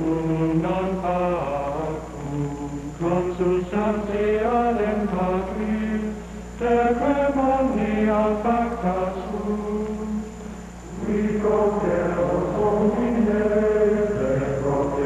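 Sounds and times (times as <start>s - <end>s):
men singing liturgical chant: 0.0s - 10.2s, 10.9s - 15.0s.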